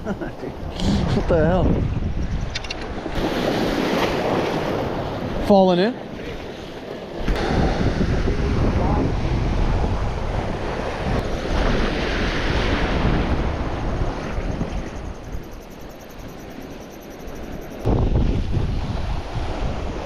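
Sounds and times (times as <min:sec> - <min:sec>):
wind rumbling on microphone: 0:00.0 - 0:05.4, 0:06.0 - 0:20.0
surf washing on shore: 0:02.8 - 0:20.0.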